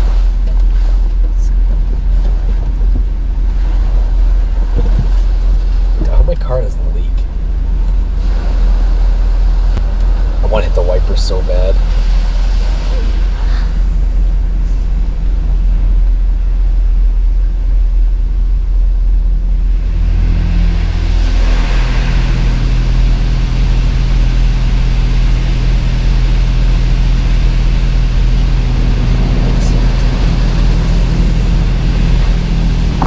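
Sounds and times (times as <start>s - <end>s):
car wash machinery hissing: 0.0s - 33.0s
low rumble in car: 0.0s - 33.0s.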